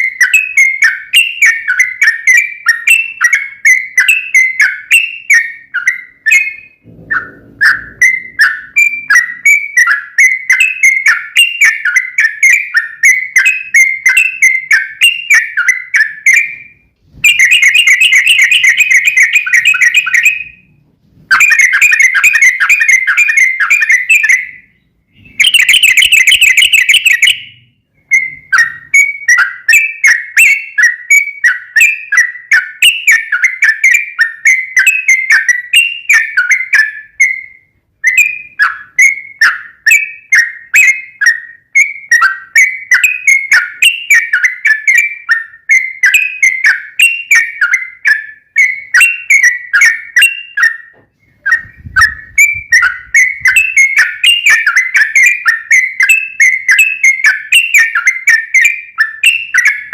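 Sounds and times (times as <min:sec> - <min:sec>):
bird chirping whistled notes: 0:00.0 - 0:59.9.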